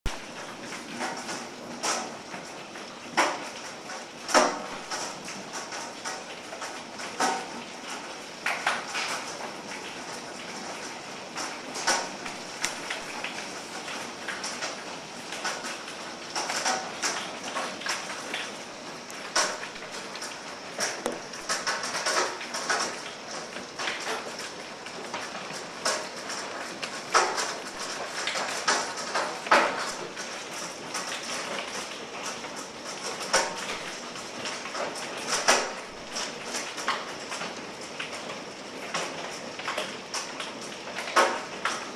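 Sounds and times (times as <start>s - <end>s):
hailstones clicking and knocking: 0.1s - 41.9s
rain and hail pattering: 0.1s - 41.9s.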